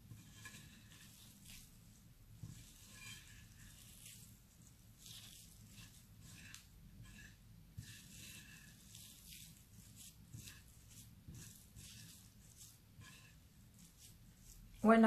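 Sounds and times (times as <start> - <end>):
hands kneading crumbly dough: 0.0 - 15.0.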